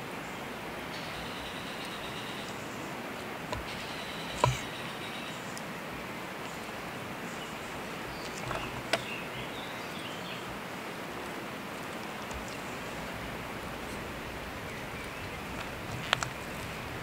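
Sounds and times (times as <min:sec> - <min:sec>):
forest background noise: 0:00.0 - 0:17.0.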